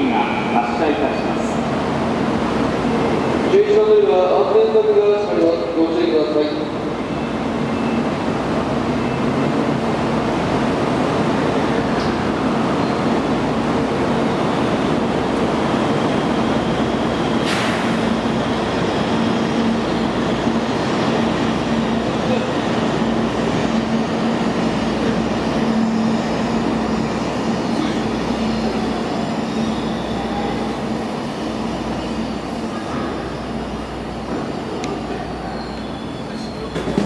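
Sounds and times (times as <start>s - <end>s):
train pulling away: 0.0s - 37.0s.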